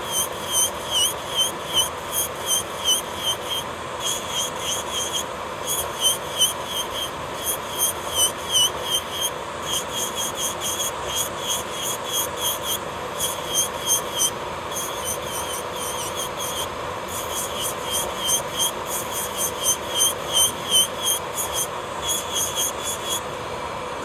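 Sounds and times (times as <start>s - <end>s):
electric nail drill whining: 0.0s - 23.4s.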